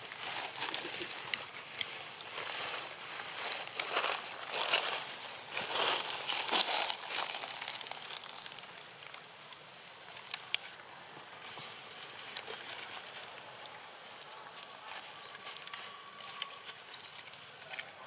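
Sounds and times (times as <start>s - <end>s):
dry leaves rustling and crackling: 0.0s - 18.0s.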